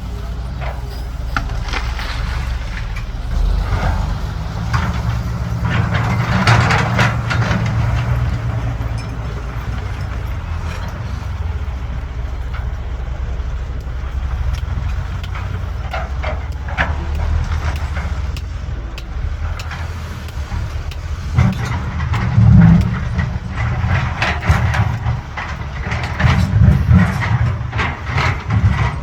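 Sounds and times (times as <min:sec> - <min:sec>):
excavator diesel engine running: 0:00.0 - 0:29.0
knocks and clatter: 0:00.0 - 0:29.0.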